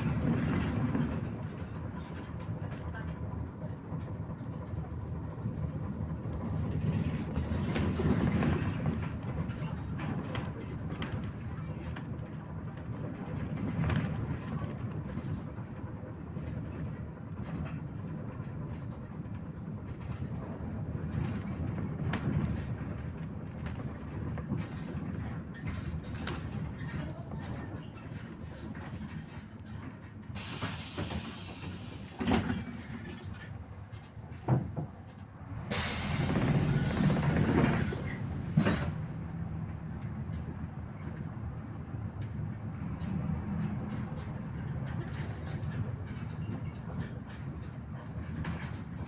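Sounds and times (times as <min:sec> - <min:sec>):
bus body rattling: 0:00.0 - 0:49.0
bus engine and road rumble: 0:00.0 - 0:49.0.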